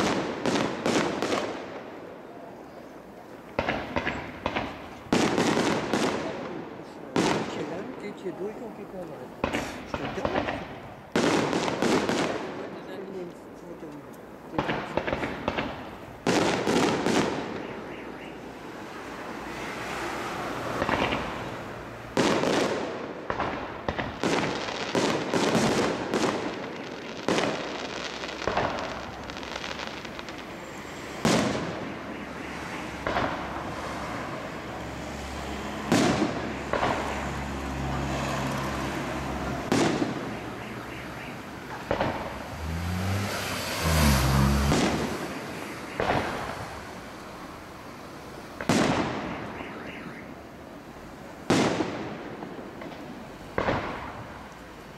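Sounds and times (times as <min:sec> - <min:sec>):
fireworks bursting with loud bangs: 0:00.0 - 0:54.6.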